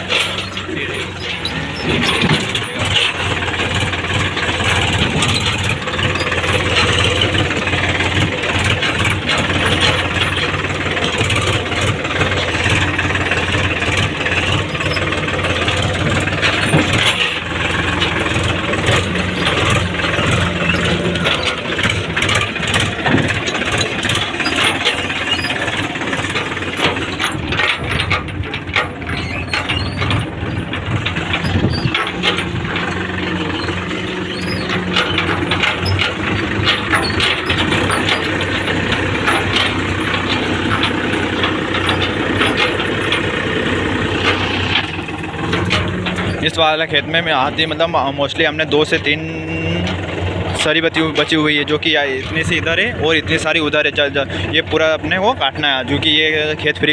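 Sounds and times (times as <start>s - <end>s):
loose metal parts rattling: 0.0s - 56.9s
tractor diesel engine running: 0.0s - 56.9s.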